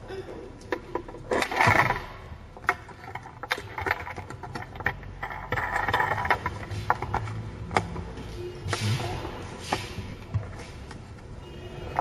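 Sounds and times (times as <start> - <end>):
plastic parts clicking and knocking: 0.5 - 11.3
plastic scraping and rustling: 0.8 - 11.3.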